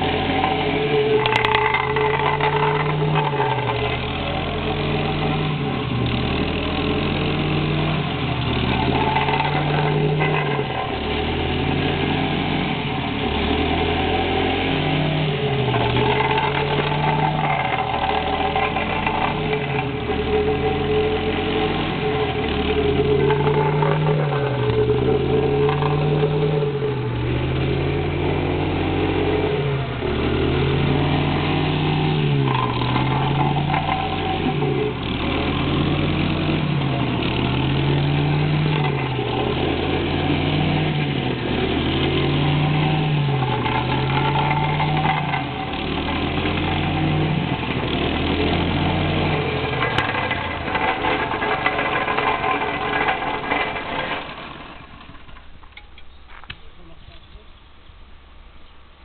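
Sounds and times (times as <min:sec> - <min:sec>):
plate compactor engine droning: 0:00.0 - 0:58.6.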